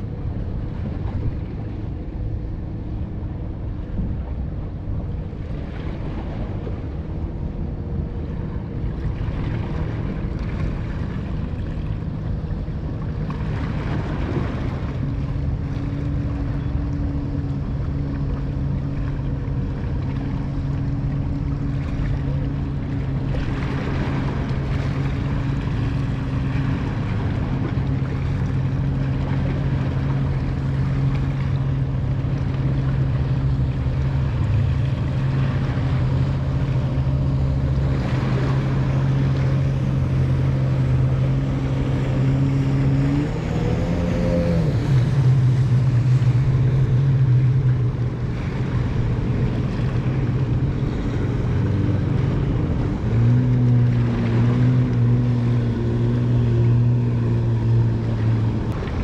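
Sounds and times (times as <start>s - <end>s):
boat motor running: 0.0s - 59.0s.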